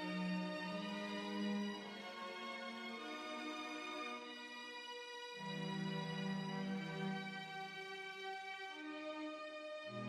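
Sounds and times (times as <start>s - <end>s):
slow sad orchestral music: 0.0s - 10.0s.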